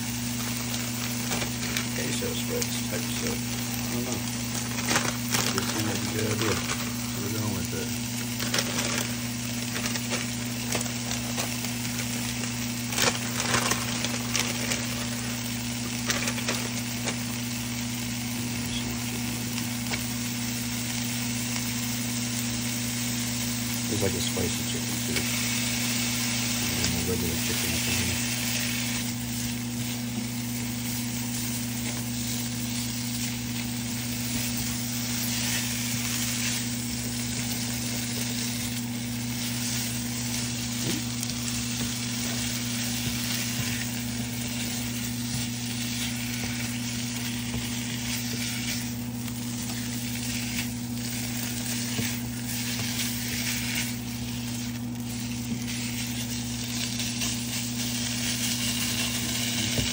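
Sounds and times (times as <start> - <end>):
meat sizzling in a frying pan: 0.0 - 59.9
utensil stirring in pan: 0.0 - 59.9.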